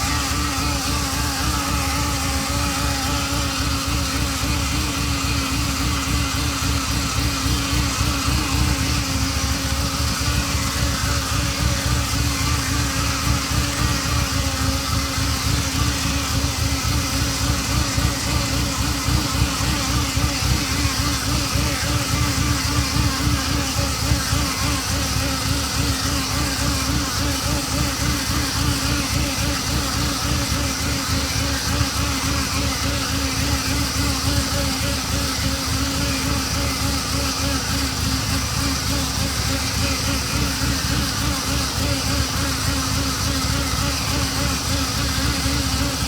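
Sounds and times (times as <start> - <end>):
car engine idling with buzz: 0.0 - 46.0.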